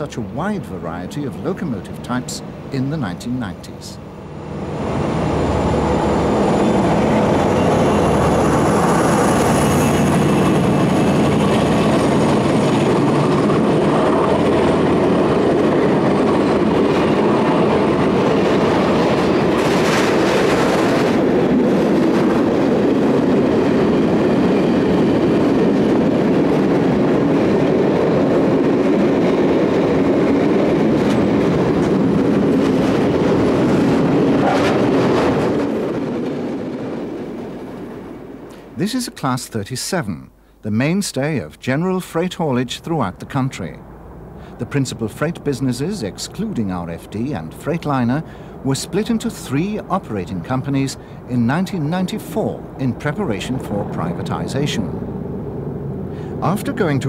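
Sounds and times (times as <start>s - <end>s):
train wheel and rail noise: 0.0s - 38.8s, 43.8s - 57.0s.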